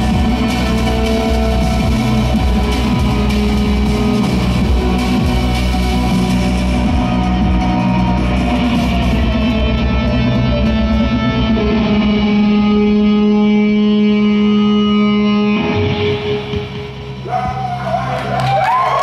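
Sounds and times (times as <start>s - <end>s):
steady low note: 0.0s - 17.3s
distorted electric guitar: 0.0s - 19.0s.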